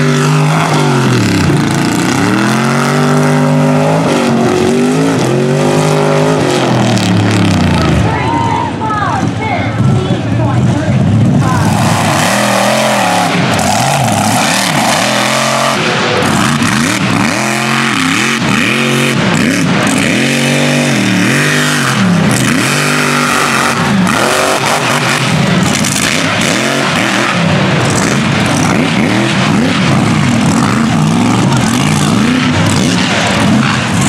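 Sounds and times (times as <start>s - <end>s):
truck engine revving: 0.0s - 8.2s, 9.2s - 34.0s
steady noisy rush: 0.0s - 34.0s.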